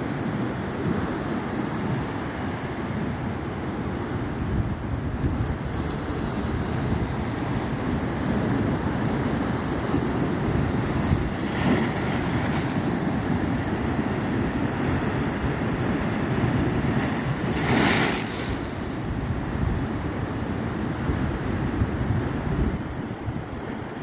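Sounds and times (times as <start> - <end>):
sea waves breaking over rocks: 0.0 - 24.0
wind rumbling on microphone: 3.8 - 24.0.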